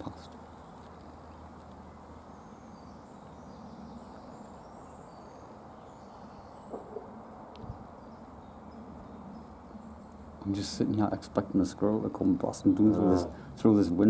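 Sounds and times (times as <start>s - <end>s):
small birds chirping: 0.0s - 14.0s
steady background hiss: 0.0s - 14.0s.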